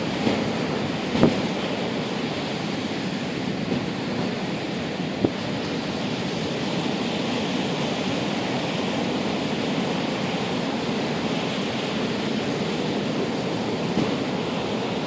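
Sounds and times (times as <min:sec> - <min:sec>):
heavy surf breaking: 0:00.0 - 0:15.0
strong wind: 0:00.0 - 0:15.0.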